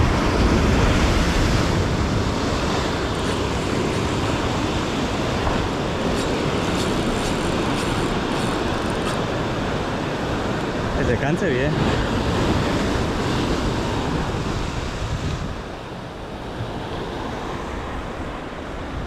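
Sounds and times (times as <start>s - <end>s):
surf rushing: 0.0s - 19.0s
wave surging against rocks: 0.0s - 19.0s.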